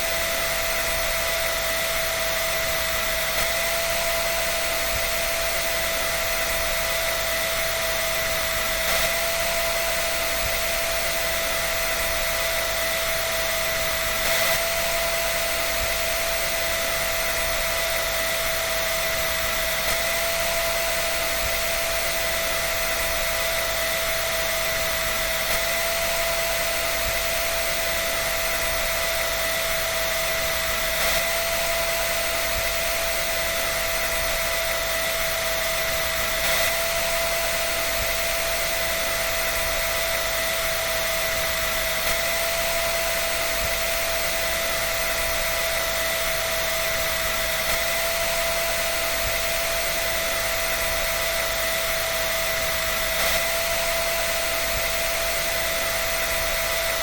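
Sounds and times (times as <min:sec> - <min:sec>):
electric dryer running: 0:00.0 - 0:57.0.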